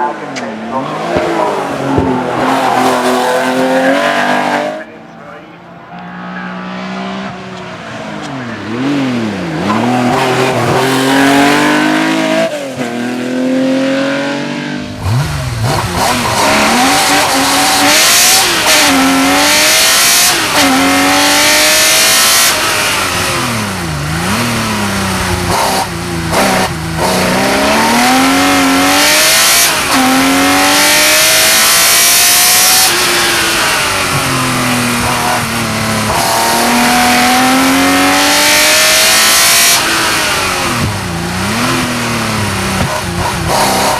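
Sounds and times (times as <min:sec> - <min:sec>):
racing engine accelerating: 0:00.0 - 0:43.9
rough loud noise: 0:00.0 - 0:43.9.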